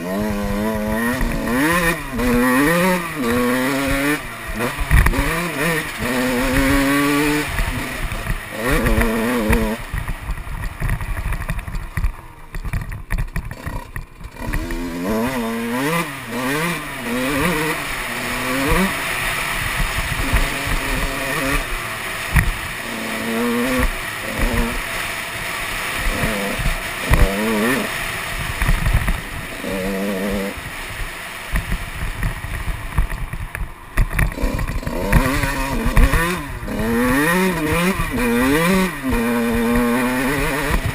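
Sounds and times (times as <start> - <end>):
dirt bike engine revving: 0.0 - 40.9
low rumble and rushing noise: 0.0 - 40.9.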